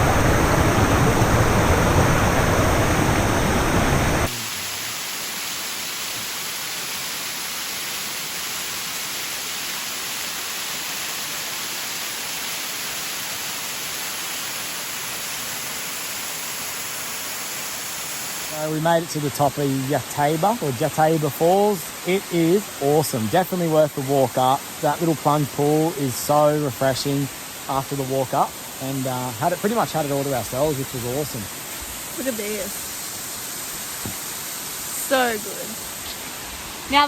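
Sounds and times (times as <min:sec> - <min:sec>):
waterfall rushing into pool: 0:00.0 - 0:37.0.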